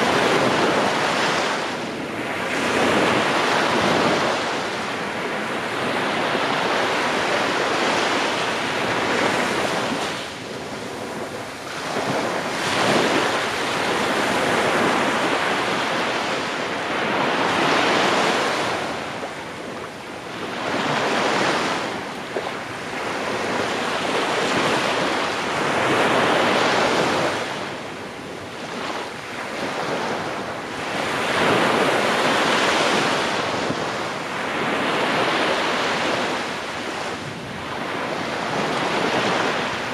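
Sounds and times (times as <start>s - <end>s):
waves breaking on sandy beach: 0.0s - 39.9s
wind buffeting microphone: 0.0s - 39.9s.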